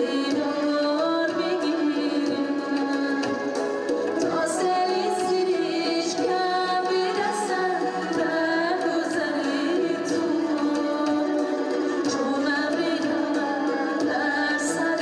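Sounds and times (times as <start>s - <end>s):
instrumental accompaniment: 0.0s - 15.0s
woman singing into microphone: 0.0s - 15.0s.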